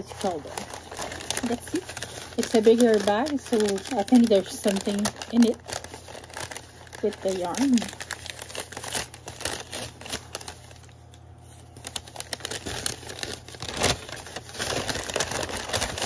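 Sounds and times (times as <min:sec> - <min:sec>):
paper bag crinkling: 0:00.0 - 0:16.0.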